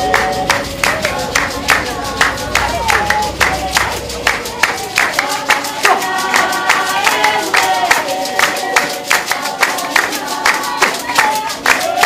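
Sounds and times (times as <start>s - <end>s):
group singing in chorus: 0.0s - 12.0s
sharp regular handclaps: 0.0s - 12.0s.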